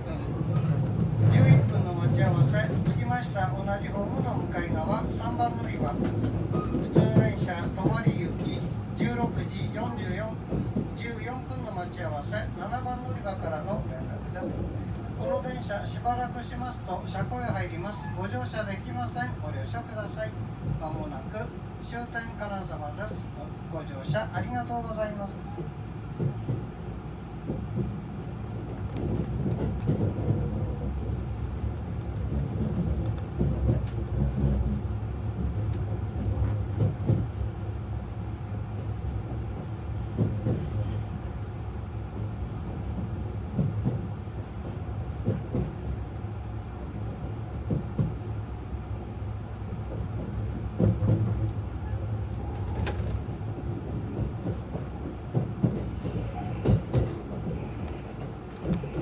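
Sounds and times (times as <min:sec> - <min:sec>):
train cabin low rumble: 0:00.0 - 0:59.0.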